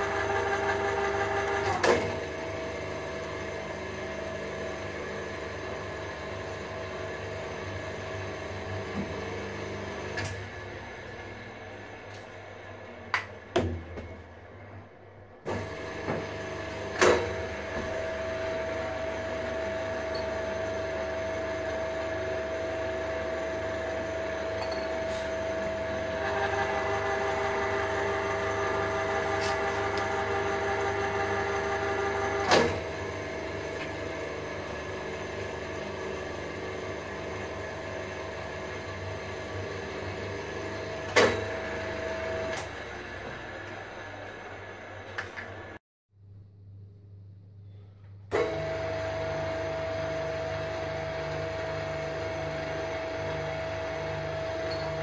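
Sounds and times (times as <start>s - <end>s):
milling machine motor humming: 0.0s - 14.8s, 15.4s - 45.8s, 48.3s - 55.0s.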